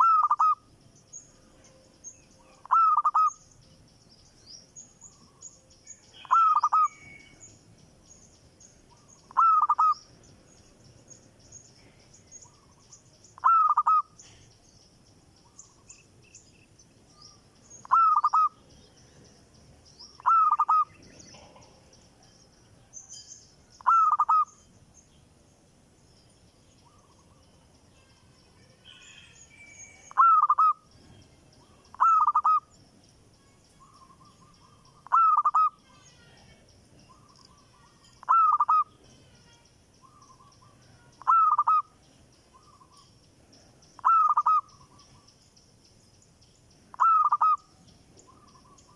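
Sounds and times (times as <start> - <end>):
faint bird chirping: 0.0 - 48.9.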